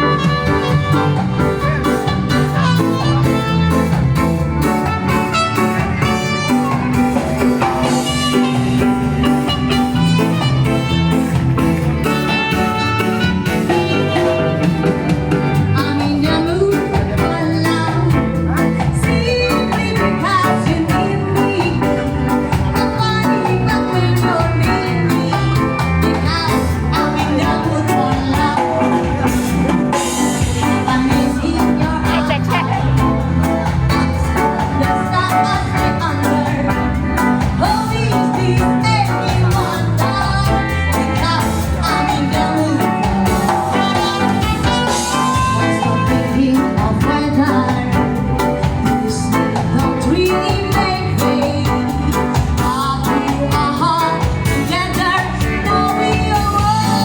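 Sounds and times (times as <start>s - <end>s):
person singing: 0.0s - 57.0s
reggae band playing live: 0.0s - 57.0s.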